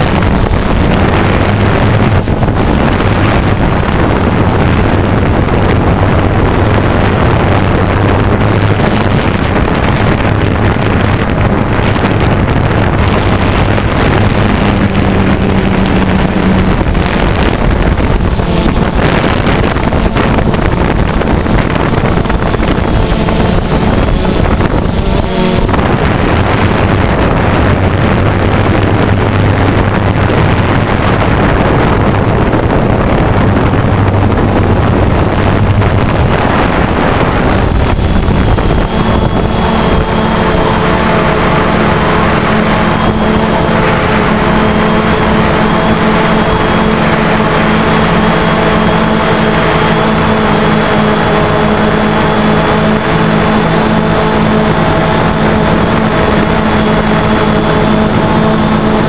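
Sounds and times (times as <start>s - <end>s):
drone motors humming: 0.0s - 59.0s
wind on microphone: 0.0s - 59.0s.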